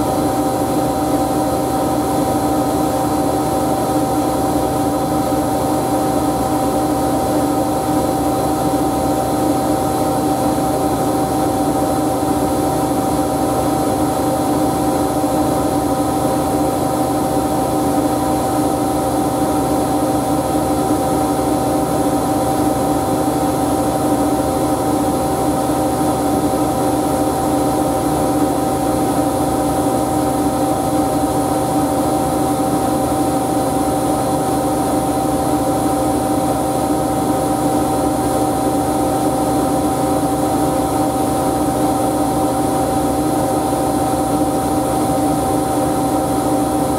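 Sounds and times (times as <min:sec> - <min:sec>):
washing machine running: 0:00.0 - 0:46.9.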